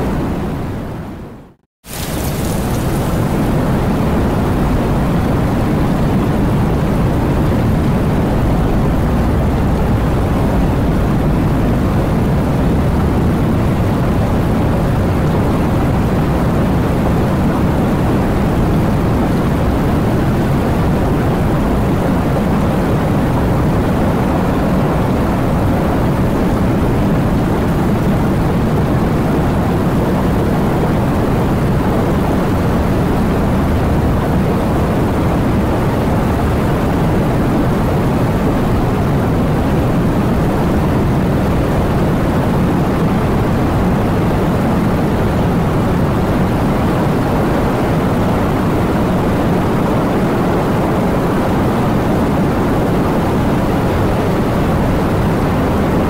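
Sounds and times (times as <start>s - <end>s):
dense muffled rain: 0.0s - 56.0s.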